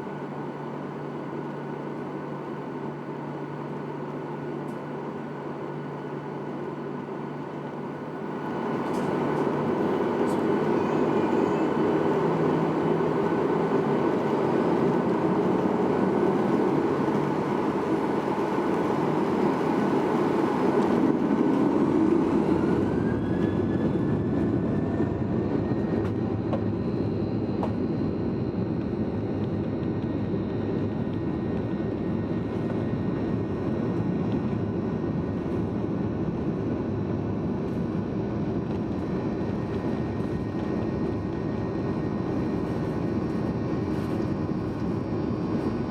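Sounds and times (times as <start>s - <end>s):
jet engine cabin drone: 0.0s - 45.9s
rising engine whine: 0.0s - 45.9s.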